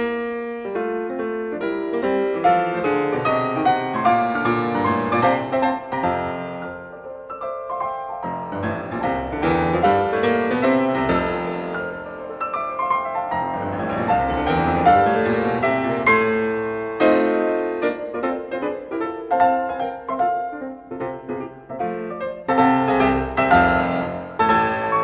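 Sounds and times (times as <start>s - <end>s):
lively piano music: 0.0s - 25.0s.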